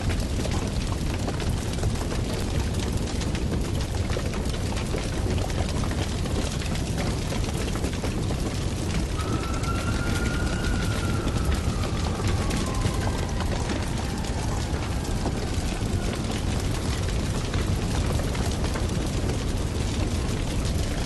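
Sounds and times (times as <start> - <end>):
dense rumbling with crackles: 0.0 - 21.0.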